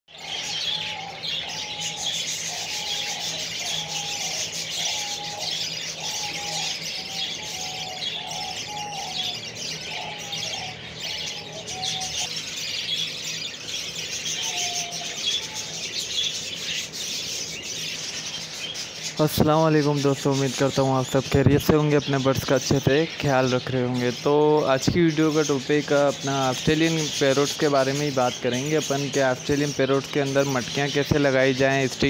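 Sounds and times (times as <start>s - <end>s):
budgerigars chattering and chirping: 0.1s - 32.0s.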